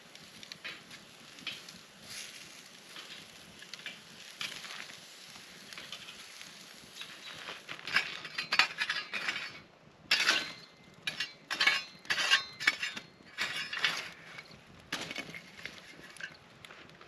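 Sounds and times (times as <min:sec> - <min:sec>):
burnt wood crunching: 0:00.0 - 0:17.0
metal shovel scraping embers: 0:00.0 - 0:17.0.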